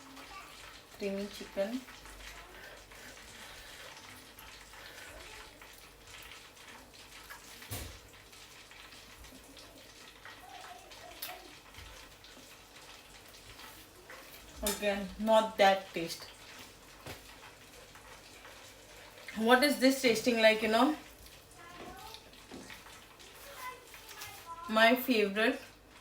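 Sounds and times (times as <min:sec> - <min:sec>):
faint kitchen room hiss: 0:00.0 - 0:26.0.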